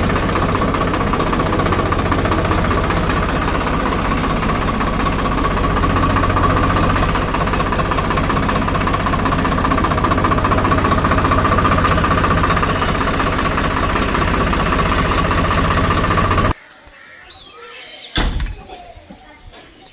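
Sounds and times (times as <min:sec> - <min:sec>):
diesel engine chugging: 0:00.0 - 0:16.6.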